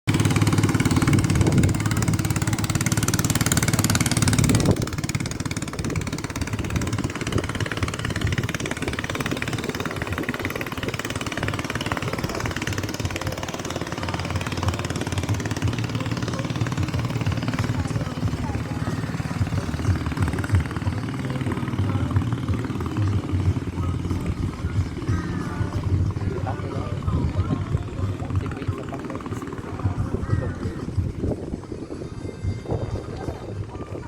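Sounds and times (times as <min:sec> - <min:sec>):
engine running steadily: 0:00.1 - 0:34.0.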